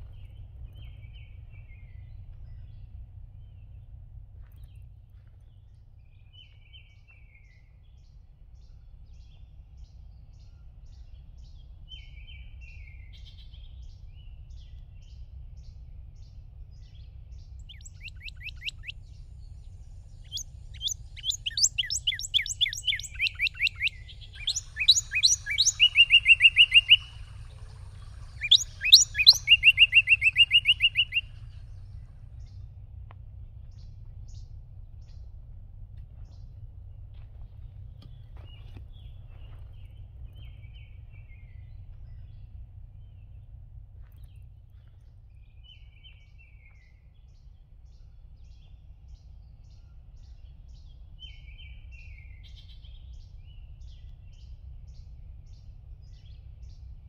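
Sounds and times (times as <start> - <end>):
songbird singing: 0.0 - 57.0
steady low rumble: 0.0 - 57.0.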